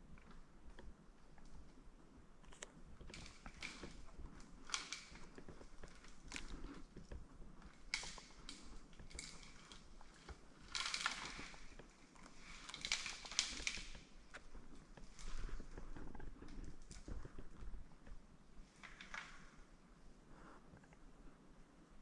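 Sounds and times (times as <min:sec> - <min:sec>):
crunching and rustling: 0:00.0 - 0:19.7.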